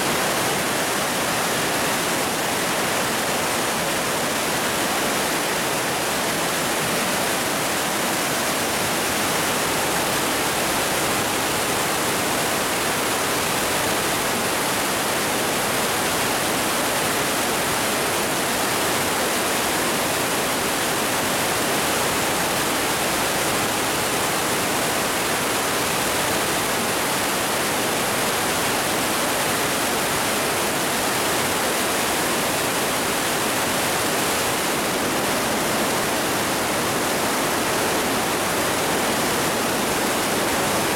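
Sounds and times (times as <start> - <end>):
river rushing through gorge: 0.0 - 40.9.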